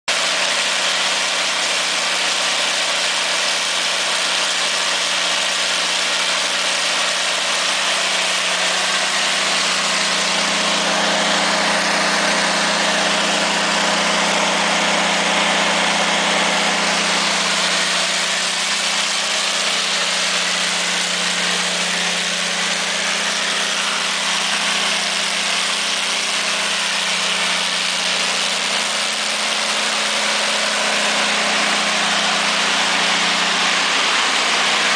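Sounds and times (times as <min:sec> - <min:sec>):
diesel generator droning: 0:00.1 - 0:34.9.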